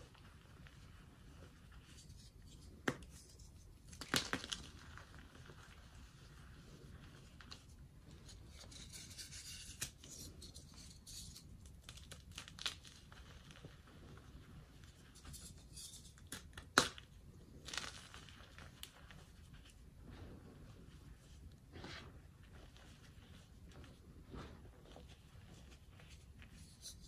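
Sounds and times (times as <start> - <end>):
chalk clumps crackling: 0.0 - 27.0
hands crumbling powdery chalk: 0.0 - 27.0.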